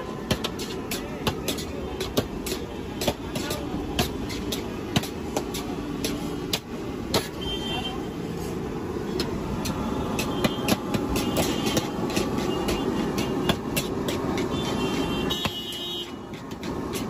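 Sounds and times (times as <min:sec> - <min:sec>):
steady background roar: 0:00.0 - 0:17.0.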